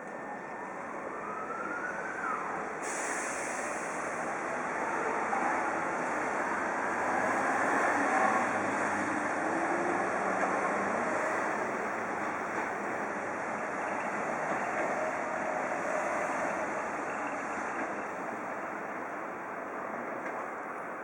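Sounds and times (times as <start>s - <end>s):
electric train rumbling on tracks: 0.0s - 21.0s.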